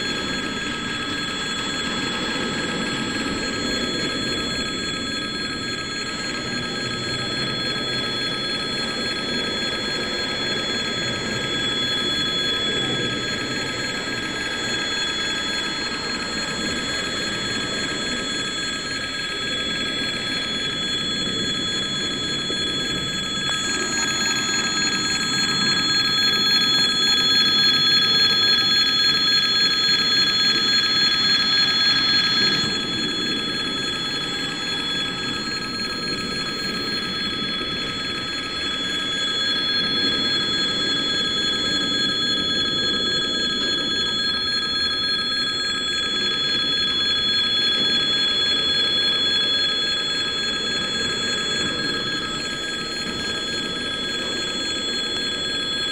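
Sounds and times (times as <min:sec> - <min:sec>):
level crossing warning bell: 0:00.0 - 0:55.9.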